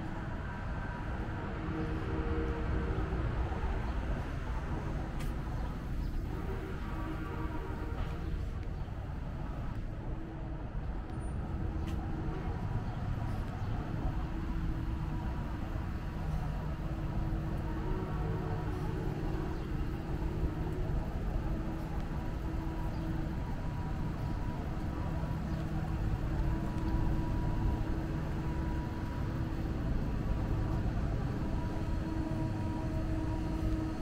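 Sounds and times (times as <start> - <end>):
cars and trucks passing: 0.0 - 34.0
constant hum: 0.0 - 34.0.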